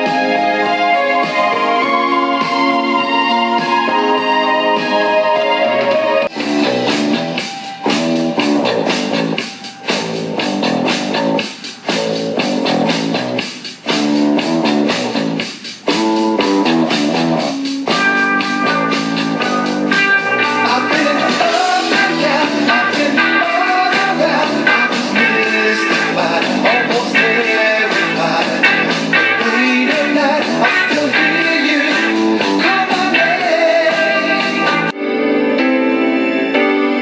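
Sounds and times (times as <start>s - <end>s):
rock music with guitar: 0.0s - 37.0s.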